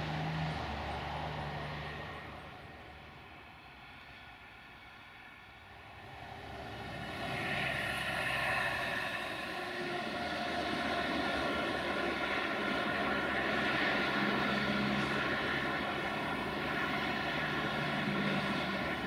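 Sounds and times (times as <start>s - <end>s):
locomotive diesel engine humming: 0.0s - 4.2s, 5.7s - 19.0s.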